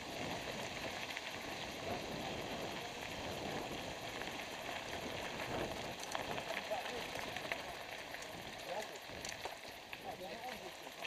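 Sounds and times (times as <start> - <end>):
bike tyre rush: 0.0 - 9.2
grit crackling under wheels: 0.0 - 11.0.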